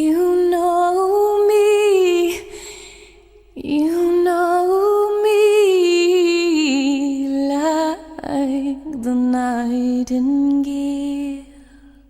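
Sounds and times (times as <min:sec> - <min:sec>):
woman singing unaccompanied: 0:00.0 - 0:02.5, 0:03.6 - 0:11.6.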